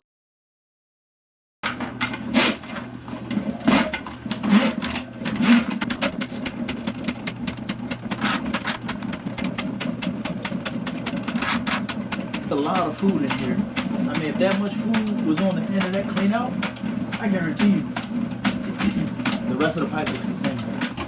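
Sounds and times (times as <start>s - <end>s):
drain cleaning machine motor humming: 1.6s - 21.0s
spinning cable clattering: 1.6s - 21.0s.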